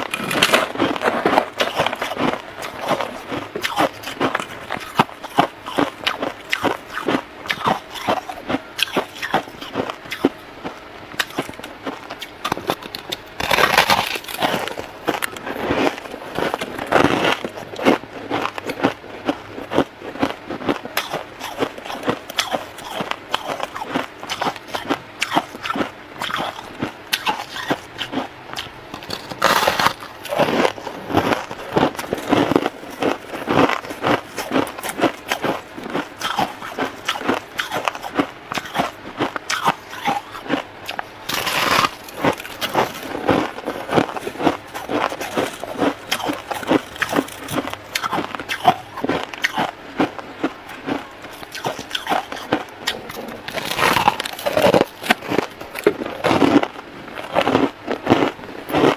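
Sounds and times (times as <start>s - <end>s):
chewing crunchy frost: 0.0s - 58.9s.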